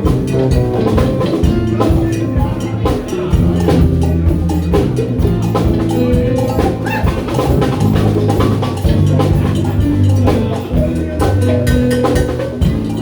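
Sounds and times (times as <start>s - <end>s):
bass and snare drums: 0.0s - 13.0s
live band playing: 0.0s - 13.0s
low bass notes: 0.0s - 13.0s.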